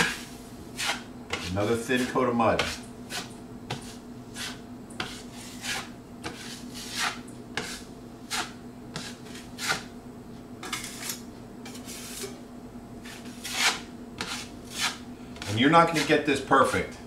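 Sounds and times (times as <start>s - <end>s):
putty knife scraping compound: 0.0s - 9.9s, 10.6s - 12.4s, 13.0s - 16.8s
faint steady hum: 0.0s - 17.0s.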